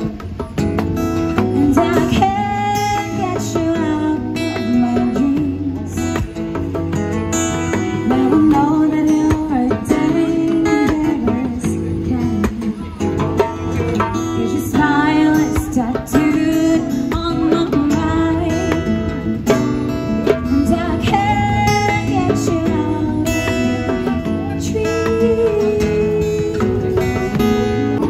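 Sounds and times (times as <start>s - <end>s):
hand drum beat: 0.0s - 28.0s
strummed acoustic guitar: 0.0s - 28.0s
woman singing: 1.4s - 6.6s, 7.8s - 13.4s, 14.1s - 28.0s.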